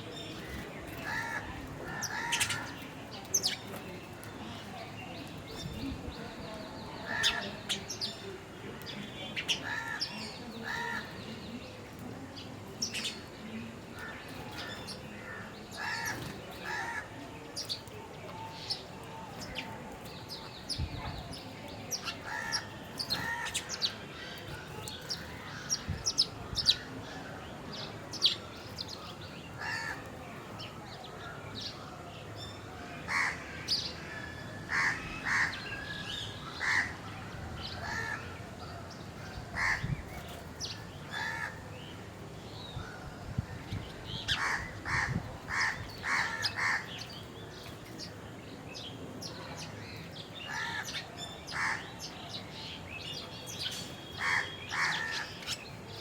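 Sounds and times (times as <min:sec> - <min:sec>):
birds calling and chirping: 0:00.0 - 0:56.0.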